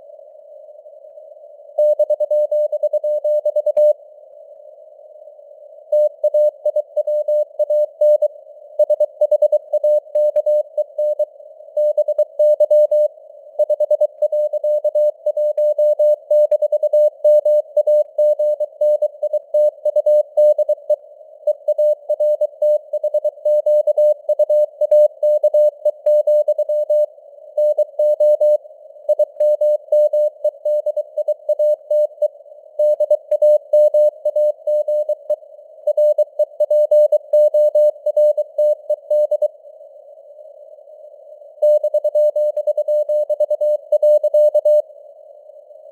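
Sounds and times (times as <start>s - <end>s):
faint radio noise hiss: 0.0s - 16.4s, 17.0s - 23.4s, 24.1s - 45.9s.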